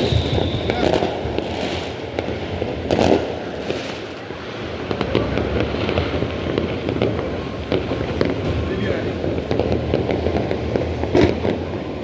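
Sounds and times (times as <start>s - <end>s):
firework bang: 0.0s - 12.0s
fireworks crackling pops: 0.0s - 12.0s.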